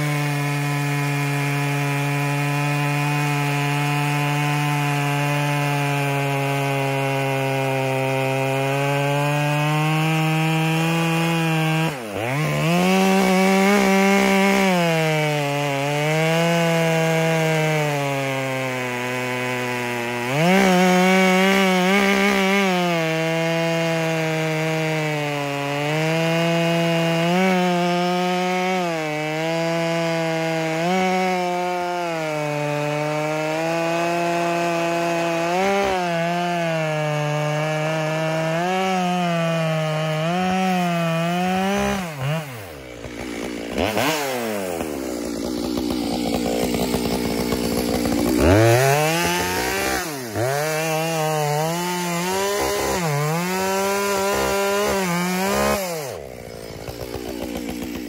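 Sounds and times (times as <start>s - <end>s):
chainsaw cutting log: 0.0s - 58.0s
chainsaw idling and revving: 0.0s - 58.0s.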